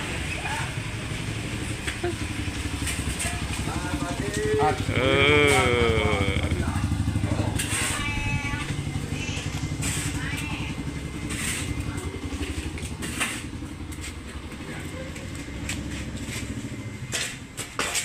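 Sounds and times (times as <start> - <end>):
small motorcycle engine: 0.0 - 17.8.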